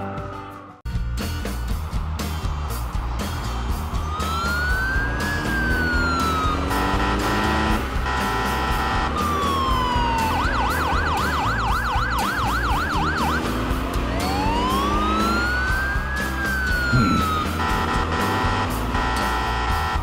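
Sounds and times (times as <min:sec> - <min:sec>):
background music: 0:00.0 - 0:20.0
cartoon ambulance siren: 0:03.9 - 0:20.0.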